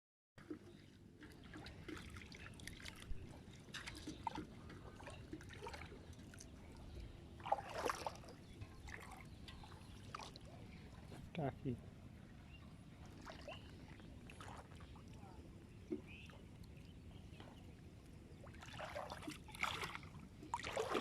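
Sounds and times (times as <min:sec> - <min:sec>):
marsh water trickling and splashing: 0:00.4 - 0:21.0.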